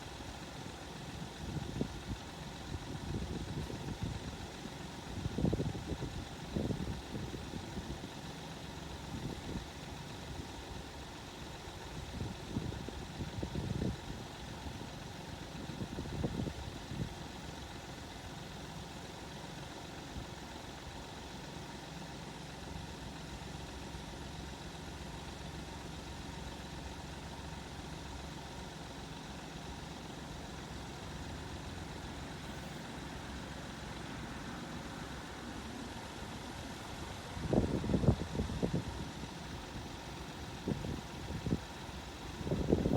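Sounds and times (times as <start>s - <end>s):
vehicle engine idling: 0.0s - 42.9s.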